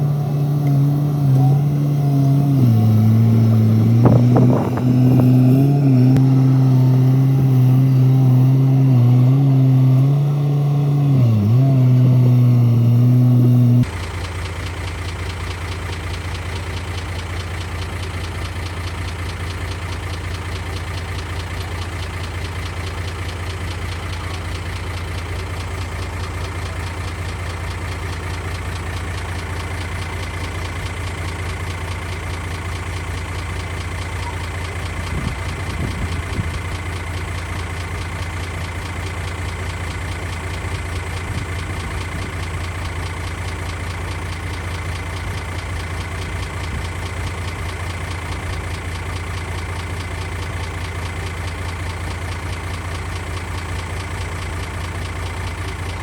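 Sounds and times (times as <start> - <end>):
bulldozer diesel engine idling: 0.0 - 56.0.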